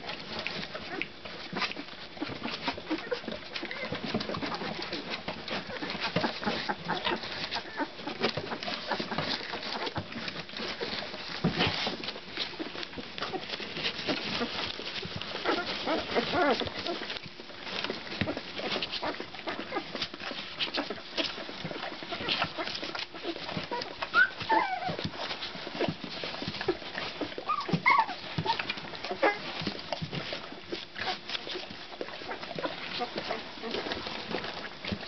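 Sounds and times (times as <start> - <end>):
dog licking and puppies nursing: 0.0 - 35.0
puppies squeaking and whimpering: 0.1 - 35.0.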